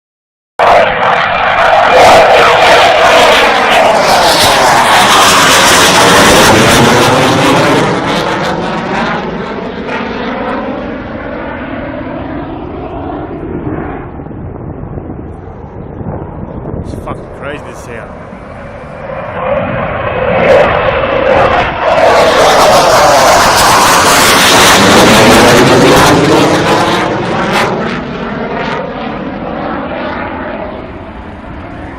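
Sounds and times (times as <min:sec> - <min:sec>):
fighter jet passing close by: 0:00.6 - 0:31.9.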